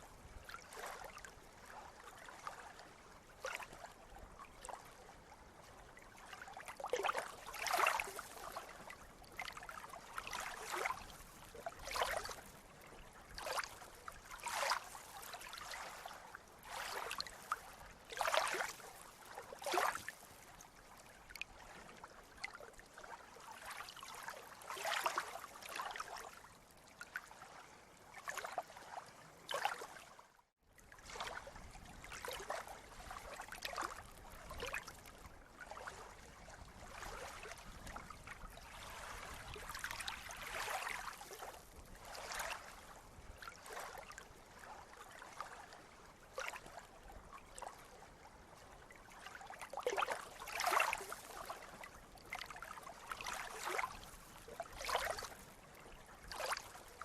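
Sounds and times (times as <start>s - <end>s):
water lapping and splashing: 0.0s - 57.0s.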